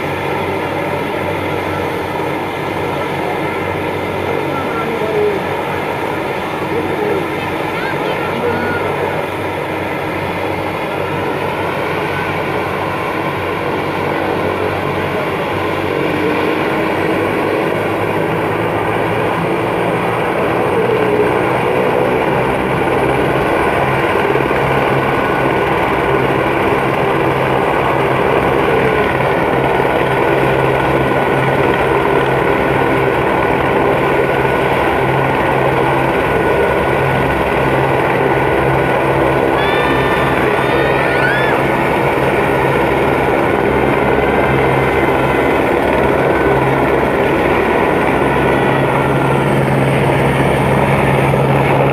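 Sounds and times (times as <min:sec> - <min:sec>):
helicopter turbine and rotor: 0:00.0 - 0:51.9.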